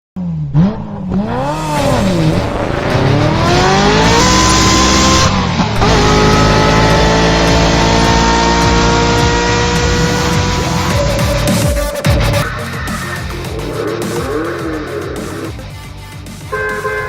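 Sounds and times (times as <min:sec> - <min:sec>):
sports car engine revving: 0:00.2 - 0:11.6, 0:12.9 - 0:15.8.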